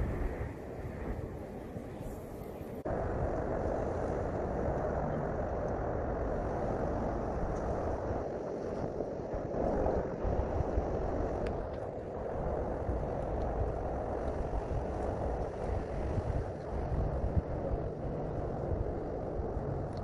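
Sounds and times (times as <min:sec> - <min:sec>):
low rumble: 0:00.0 - 0:20.0
noisy outdoor ambience rush: 0:00.0 - 0:20.0.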